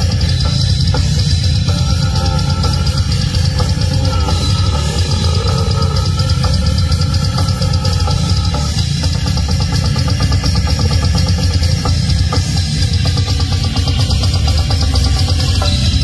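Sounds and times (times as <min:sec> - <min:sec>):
metal band playing live: 0:00.0 - 0:16.0.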